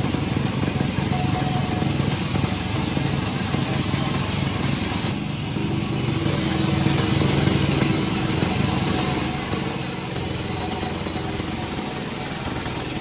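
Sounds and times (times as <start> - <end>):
sawmill machinery engine drone: 0.0 - 13.0.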